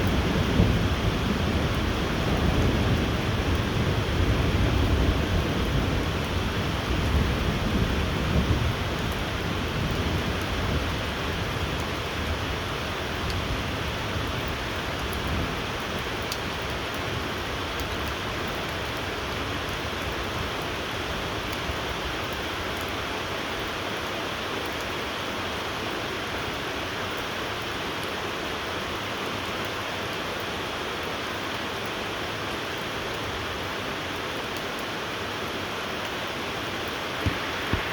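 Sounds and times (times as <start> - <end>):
steady rainfall: 0.0 - 37.9.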